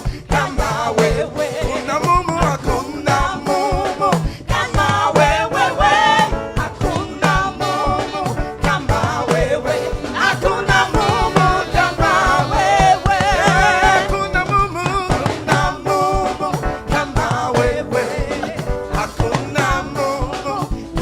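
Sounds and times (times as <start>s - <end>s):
band with upbeat drum beat: 0.0s - 21.0s
choir singing gospel: 0.0s - 21.0s.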